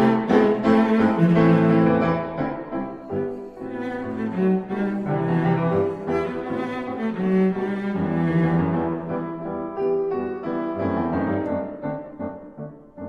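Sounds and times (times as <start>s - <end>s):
instrumental music with held notes: 0.0s - 13.0s.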